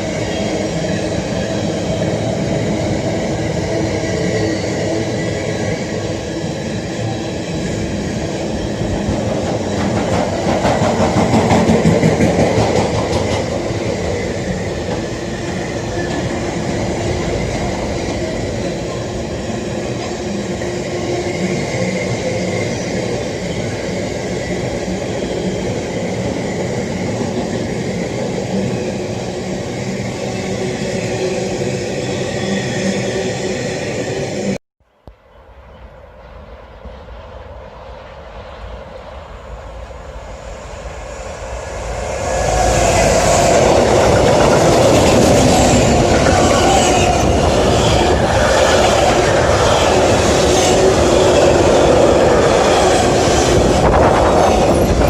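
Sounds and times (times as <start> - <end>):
train humming: 0.0 - 34.6, 35.3 - 55.0
train rushing noise: 0.0 - 34.6, 35.5 - 55.0.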